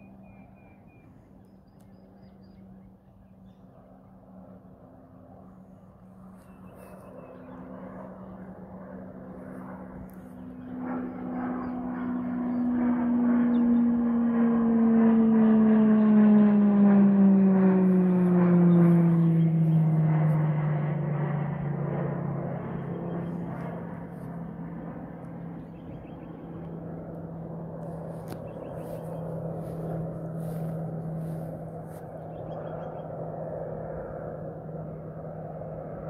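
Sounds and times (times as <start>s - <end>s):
aircraft engine flying overhead: 0.0s - 36.0s.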